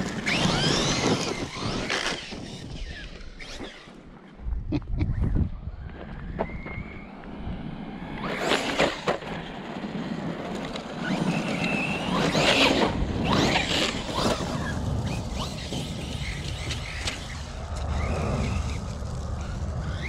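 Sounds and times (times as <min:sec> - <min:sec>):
rc truck motor whine: 0:00.0 - 0:04.2, 0:05.6 - 0:20.0.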